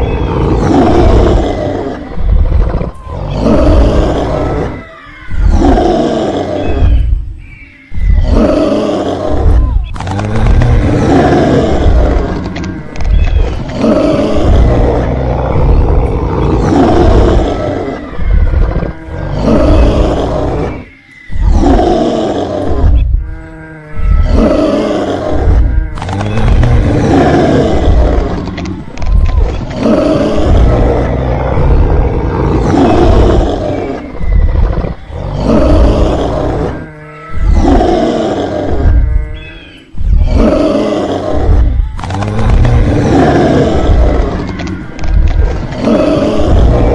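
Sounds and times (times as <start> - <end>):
dinosaur growling roars: 0.0 - 7.3, 7.9 - 46.9.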